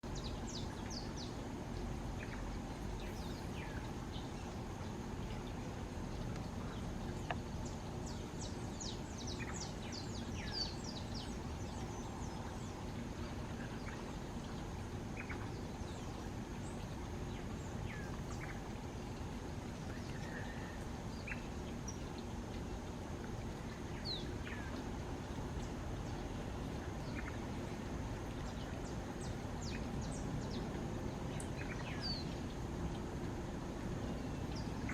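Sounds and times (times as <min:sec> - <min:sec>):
small birds chirping: 0:00.0 - 0:22.5, 0:23.2 - 0:33.0
low background rumble: 0:00.0 - 0:34.9.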